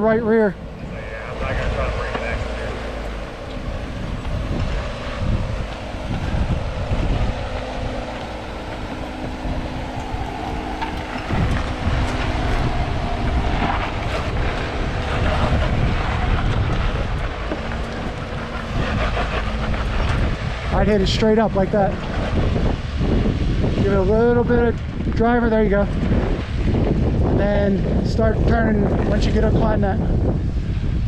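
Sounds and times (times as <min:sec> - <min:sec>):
truck engine crawling: 0:00.0 - 0:31.0
wind buffeting microphone: 0:00.0 - 0:31.0.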